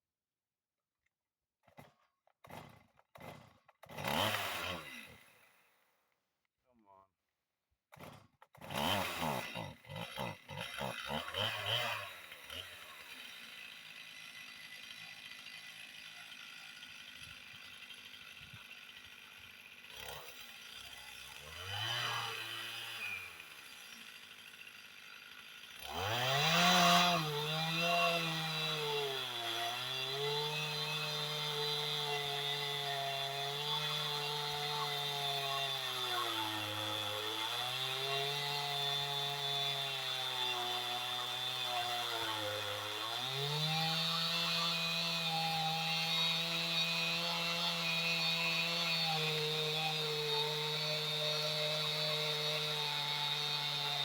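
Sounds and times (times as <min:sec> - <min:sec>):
chainsaw revving: 0:02.4 - 0:05.4, 0:07.9 - 0:54.0.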